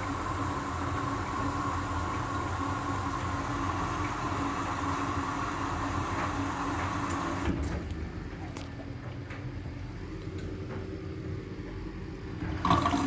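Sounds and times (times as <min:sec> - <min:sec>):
washing machine humming and whining: 0:00.0 - 0:13.0.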